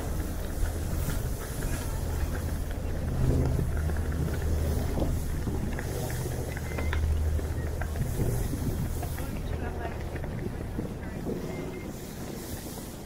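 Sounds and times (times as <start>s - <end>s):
ferry engines droning: 0.0s - 13.0s
wind and water hiss: 0.0s - 13.0s.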